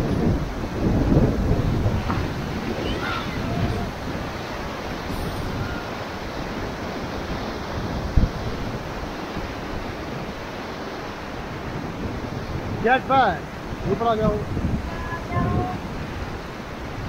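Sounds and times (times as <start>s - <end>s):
whitewater rapids rushing: 0.0s - 17.0s
wind on microphone: 0.0s - 17.0s.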